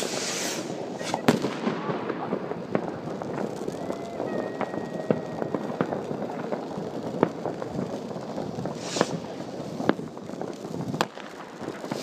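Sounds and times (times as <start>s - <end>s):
far-off crackling bangs: 0.0s - 12.0s
firework cracks: 0.0s - 12.0s
firework hiss: 0.0s - 12.0s.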